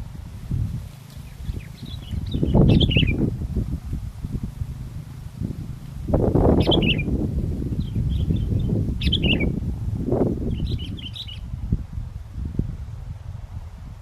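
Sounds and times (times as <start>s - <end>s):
bulbuls chirping: 0.0s - 11.6s
wind buffeting microphone: 0.0s - 14.0s.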